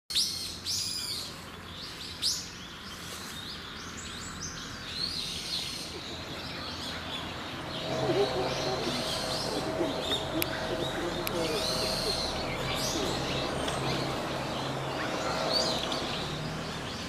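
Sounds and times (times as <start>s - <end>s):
birds chirping and twittering: 0.1s - 17.0s.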